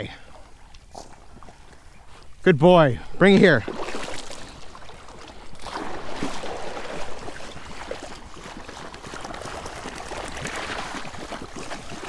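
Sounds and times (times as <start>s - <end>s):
dog wading through water: 0.0s - 2.4s, 3.2s - 12.0s.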